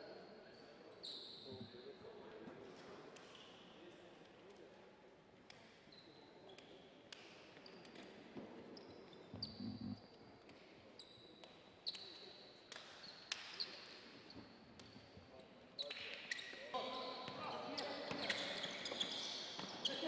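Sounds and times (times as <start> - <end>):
faint hall murmur: 0.0 - 20.0.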